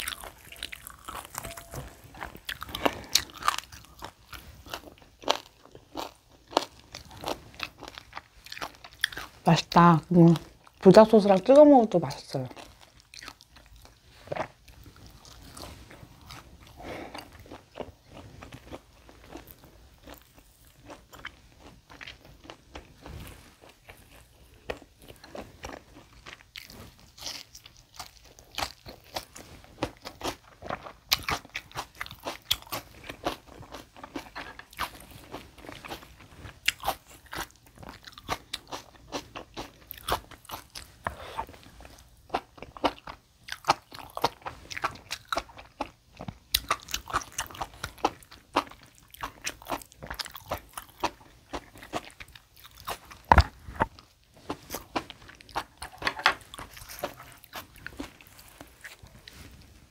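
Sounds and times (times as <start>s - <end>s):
person chewing steak: 0.0s - 9.4s, 12.5s - 59.7s.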